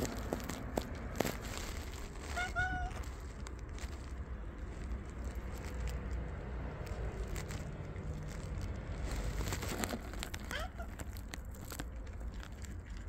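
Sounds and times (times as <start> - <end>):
cat crunching kibble: 0.0 - 13.0
steady low rumble: 0.0 - 13.0.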